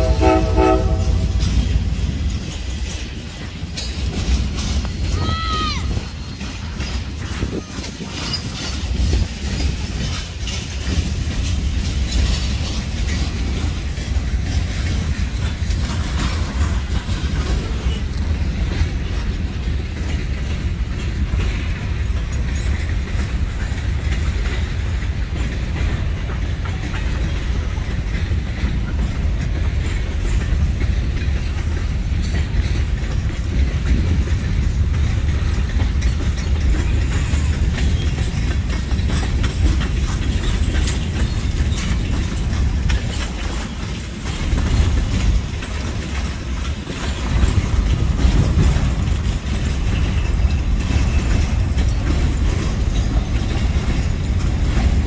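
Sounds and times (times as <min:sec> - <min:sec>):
train wheels rumbling on rails: 0:00.0 - 0:55.0
wheel clatter over rail joints: 0:00.0 - 0:55.0.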